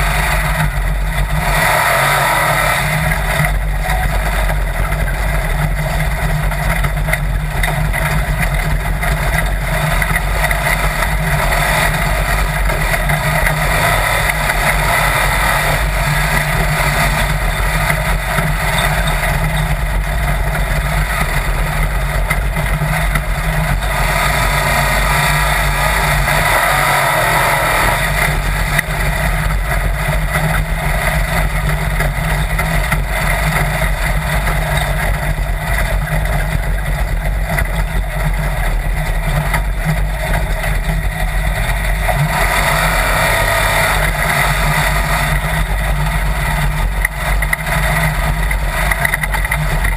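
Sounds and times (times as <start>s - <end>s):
dune buggy engine running: 0.0s - 49.9s.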